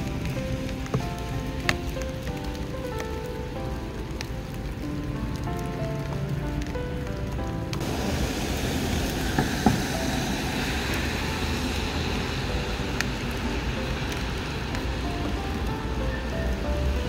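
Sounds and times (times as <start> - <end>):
distant traffic rumble: 0.0 - 17.0
rain falling: 0.0 - 17.0.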